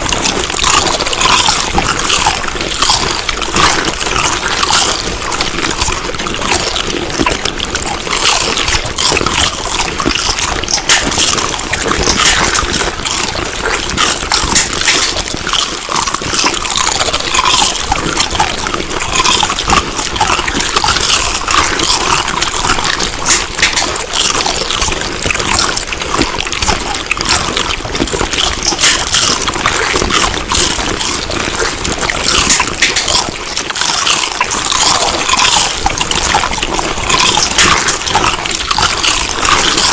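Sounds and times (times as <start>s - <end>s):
chewing food clicking mouth noises: 0.0s - 39.9s.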